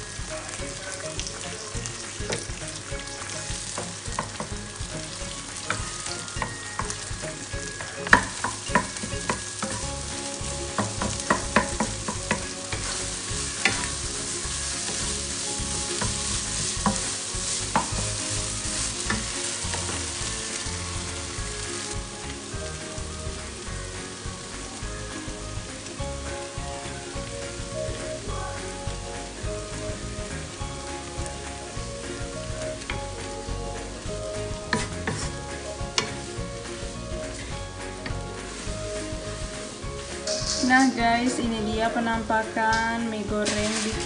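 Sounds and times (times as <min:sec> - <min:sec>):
food sizzling in a wok: 0:00.0 - 0:44.0
wooden spatula scraping: 0:00.0 - 0:44.0.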